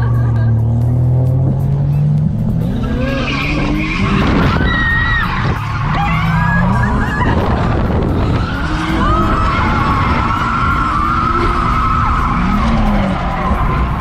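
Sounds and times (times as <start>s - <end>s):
car engine revving hard: 0.6s - 14.0s
tyres squealing: 2.6s - 14.0s.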